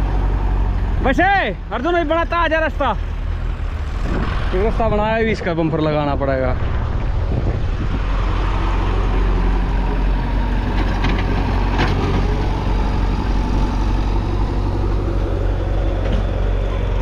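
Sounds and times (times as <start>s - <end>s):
diesel tractor engine running: 0.0s - 17.0s.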